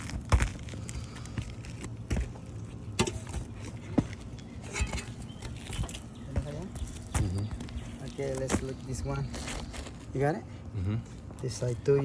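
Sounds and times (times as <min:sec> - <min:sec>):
knocks and scuffs: 0:00.0 - 0:10.1
low steady hum: 0:00.0 - 0:12.0.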